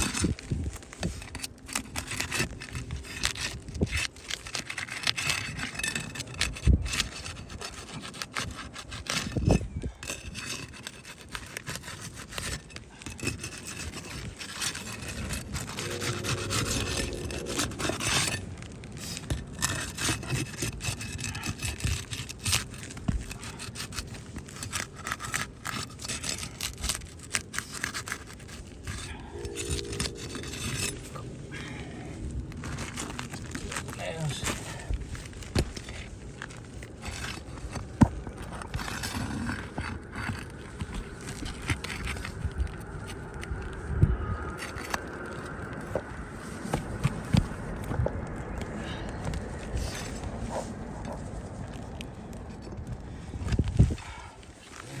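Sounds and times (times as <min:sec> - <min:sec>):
scraping and prying roof shingle: 0:00.0 - 0:55.0.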